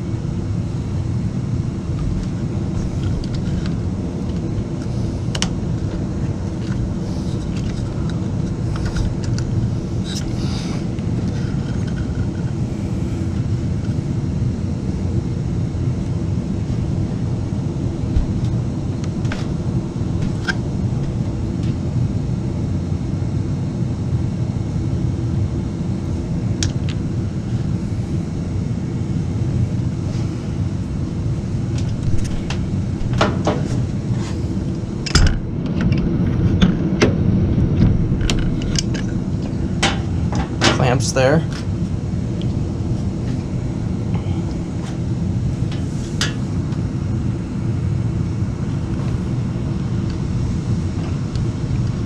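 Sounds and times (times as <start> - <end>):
low machinery rumble: 0.0 - 52.0.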